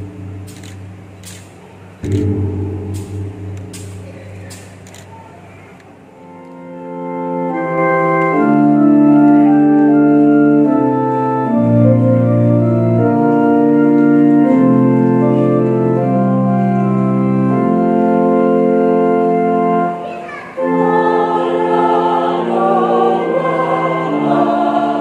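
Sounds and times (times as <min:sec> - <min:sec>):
electronic organ chords: 0:00.0 - 0:01.3, 0:01.9 - 0:04.4, 0:06.0 - 0:20.0, 0:20.6 - 0:25.0.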